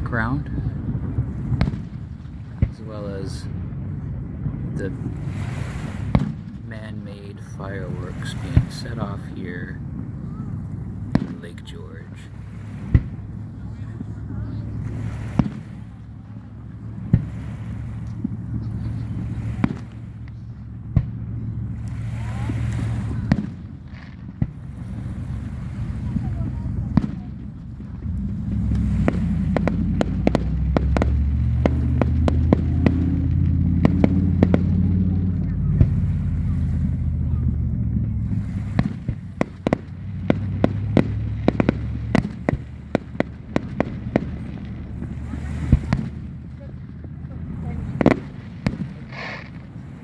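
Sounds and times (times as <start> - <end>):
fireworks bangs: 0.0 - 50.0
low rumble: 0.0 - 50.0.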